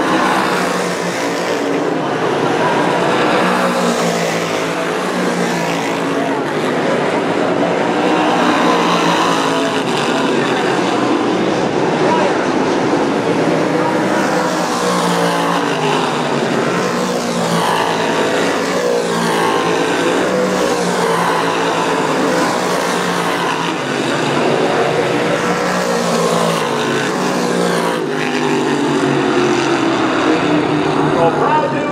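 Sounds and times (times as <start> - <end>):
race car engines passing: 0.0 - 31.9.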